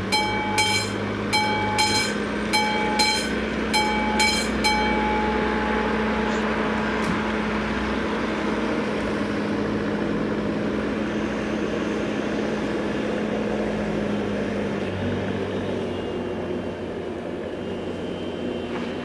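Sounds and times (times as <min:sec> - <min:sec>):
train running nearby: 0:00.0 - 0:19.0.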